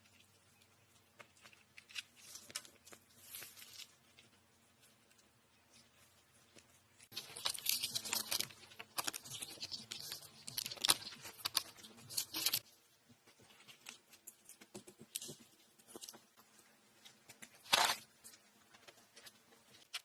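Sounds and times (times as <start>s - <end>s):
crackling and tearing noises: 0.0s - 20.0s.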